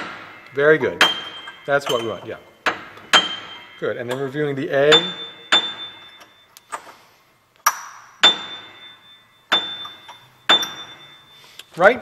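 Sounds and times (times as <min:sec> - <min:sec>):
metallic piano plinks: 0:00.4 - 0:06.5, 0:07.7 - 0:11.4.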